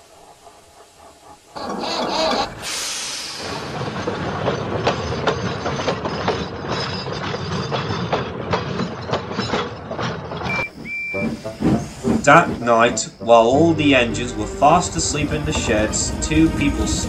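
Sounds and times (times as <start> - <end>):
train running rumble: 0.0 - 17.0
train wheels clattering: 0.0 - 17.0.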